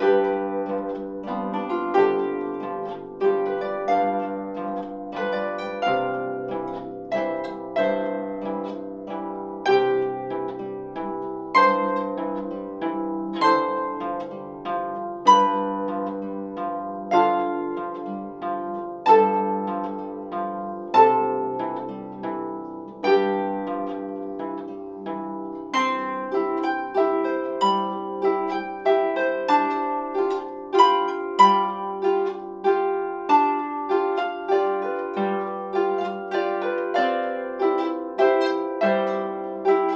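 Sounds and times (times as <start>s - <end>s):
harp playing a waltz: 0.0s - 39.9s.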